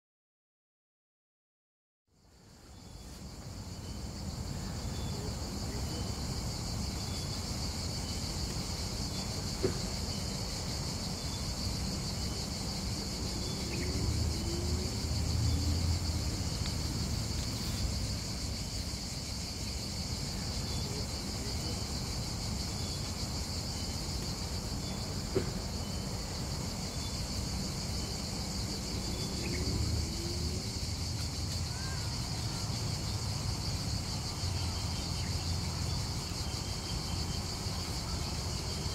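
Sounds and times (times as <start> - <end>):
insects droning: 2.1 - 38.9.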